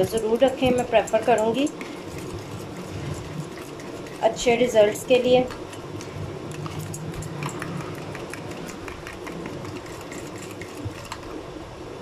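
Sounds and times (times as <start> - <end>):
fork beating batter in bowl: 0.0 - 11.3.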